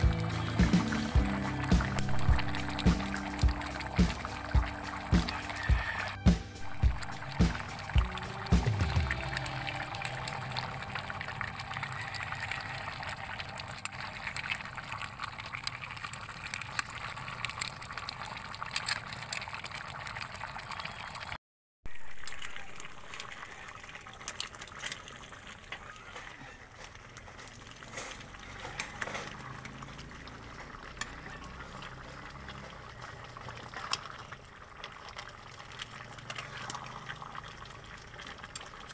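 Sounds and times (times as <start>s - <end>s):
pot boiling and bubbling: 0.0s - 38.9s.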